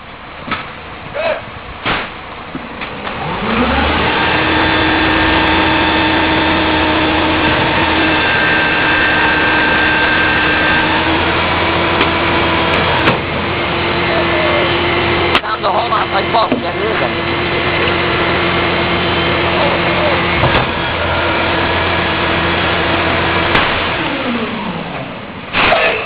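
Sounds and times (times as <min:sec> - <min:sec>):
steady whine: 0:00.0 - 0:26.0
garbage truck engine revving: 0:01.7 - 0:26.0.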